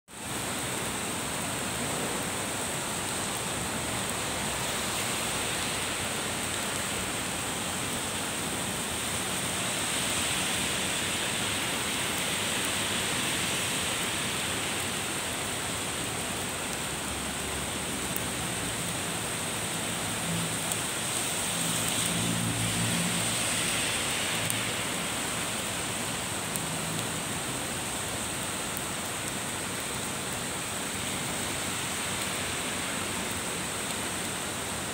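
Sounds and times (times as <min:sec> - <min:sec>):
rain falling on pavement: 0:00.1 - 0:34.9.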